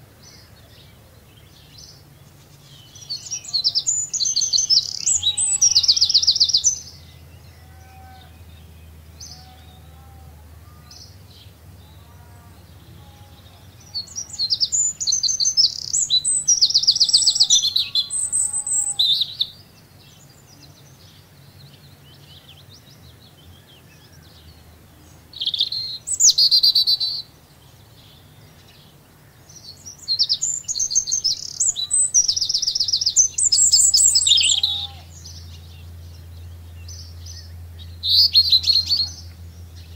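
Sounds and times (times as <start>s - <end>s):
low steady hum: 0.0s - 39.9s
songbird trills: 0.0s - 39.9s.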